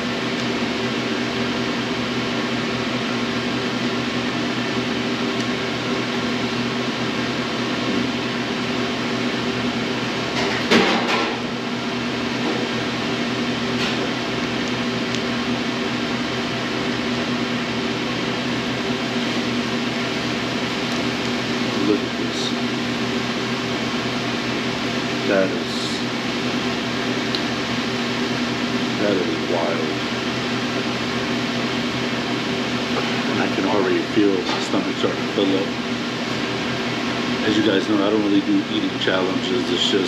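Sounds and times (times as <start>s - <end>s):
steady mechanical hum: 0.0s - 40.0s.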